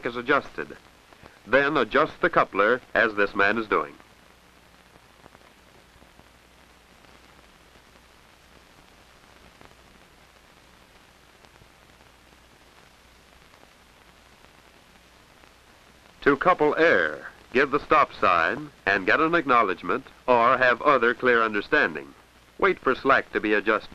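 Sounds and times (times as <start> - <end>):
faint crackles: 0.0 - 23.9
film soundtrack hiss and hum: 0.0 - 23.9.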